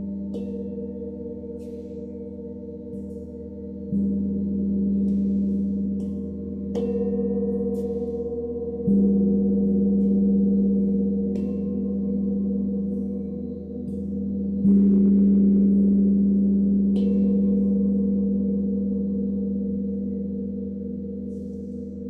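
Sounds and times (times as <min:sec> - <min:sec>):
singing bowls ringing: 0:00.0 - 0:22.0.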